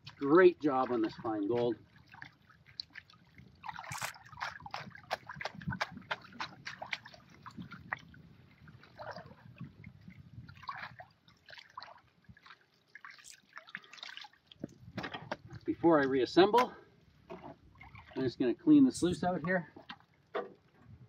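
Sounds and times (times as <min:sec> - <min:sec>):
water sloshing in a tub: 0:00.0 - 0:21.0.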